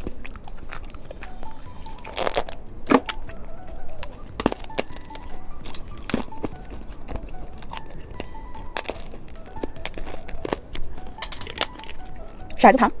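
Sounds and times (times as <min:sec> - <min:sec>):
candy crunching: 0:00.0 - 0:12.7
soft background music: 0:00.0 - 0:13.0.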